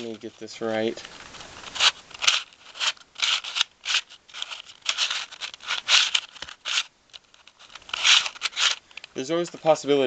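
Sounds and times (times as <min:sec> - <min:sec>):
plastic puzzle clacking and rattling: 0:00.0 - 0:09.8.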